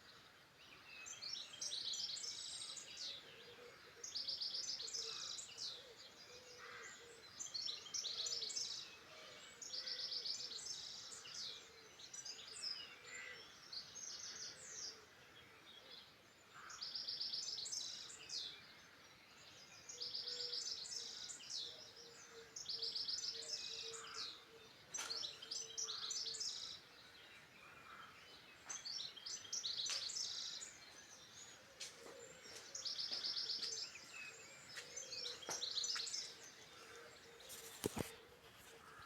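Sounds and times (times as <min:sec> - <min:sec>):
songbirds singing trills: 0:00.0 - 0:39.0.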